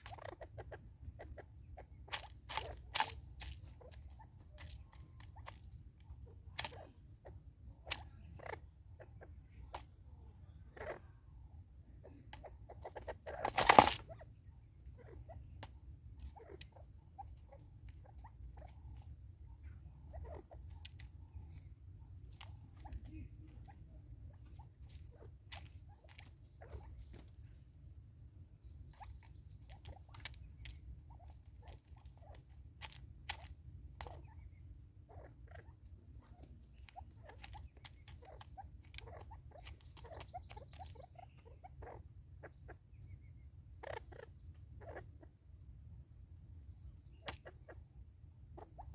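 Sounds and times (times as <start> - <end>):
bird pecking and scratching: 0.0 - 48.9.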